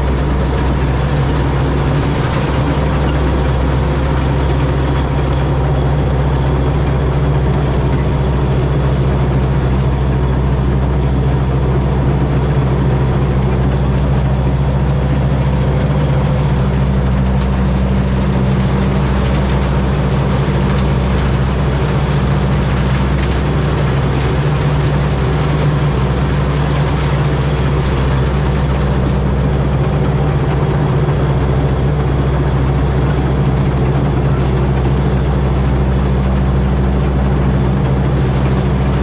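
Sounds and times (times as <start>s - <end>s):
combine harvester engine running: 0.0s - 39.0s.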